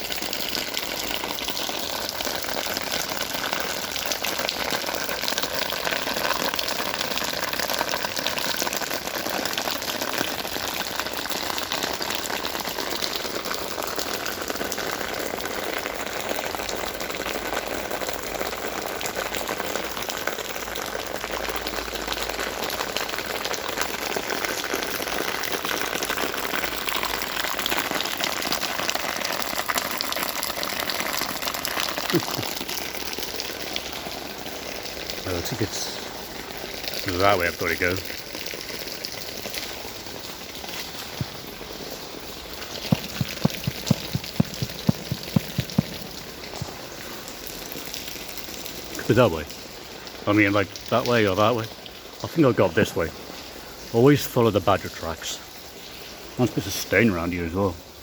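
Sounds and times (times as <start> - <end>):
water drops pattering: 0.0 - 55.4
water rushing: 0.0 - 57.8.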